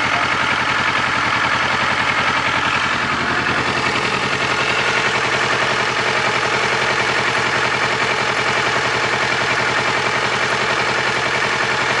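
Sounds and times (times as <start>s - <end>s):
engine running with rapid pulsing: 0.0s - 12.0s.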